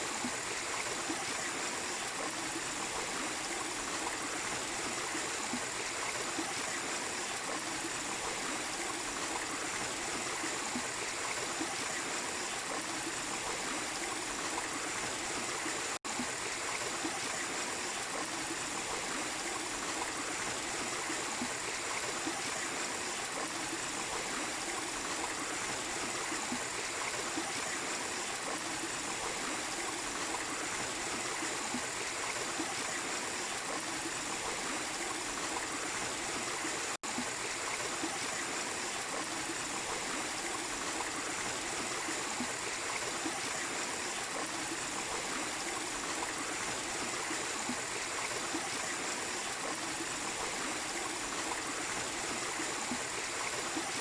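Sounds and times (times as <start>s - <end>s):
waterfall and stream rushing: 0.0s - 54.0s.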